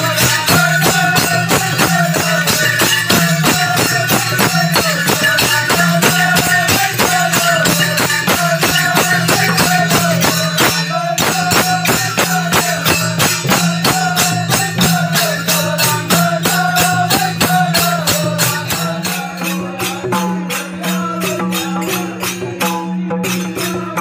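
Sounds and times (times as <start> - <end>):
barrel drums beating fast rhythm: 0.0 - 24.0
hand cymbals ringing: 0.0 - 24.0.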